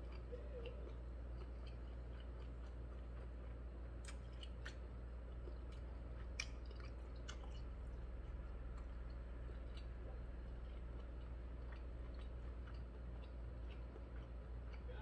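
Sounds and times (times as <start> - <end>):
faint low hum: 0.0 - 15.0
man chewing food: 0.0 - 15.0.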